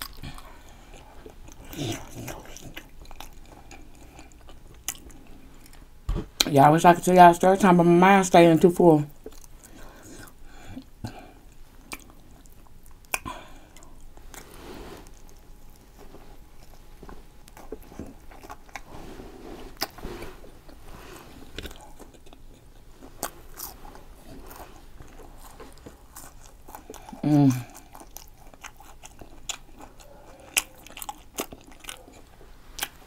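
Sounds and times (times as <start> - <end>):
wet chewing: 0.0 - 6.5, 9.2 - 33.0.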